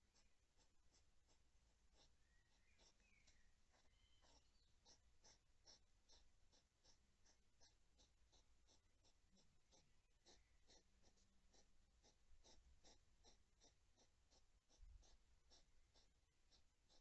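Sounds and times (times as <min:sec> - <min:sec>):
hedgehog chewing food: 0:00.1 - 0:17.0.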